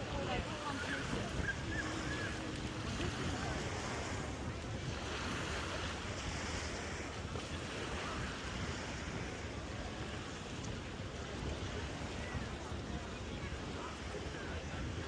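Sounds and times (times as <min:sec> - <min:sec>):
waves breaking on a beach: 0:00.0 - 0:15.0
wind buffeting microphone: 0:00.0 - 0:15.0.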